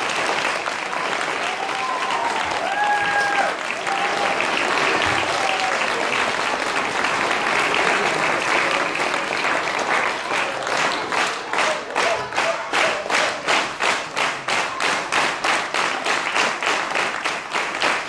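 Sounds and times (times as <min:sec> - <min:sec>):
audience applauding: 0:00.0 - 0:18.0
rhythmic clapping in unison: 0:00.0 - 0:18.0.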